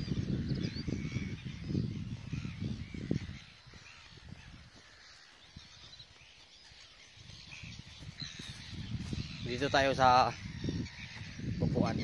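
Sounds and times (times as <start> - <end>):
gulls crying and squawking: 0.0 - 12.0.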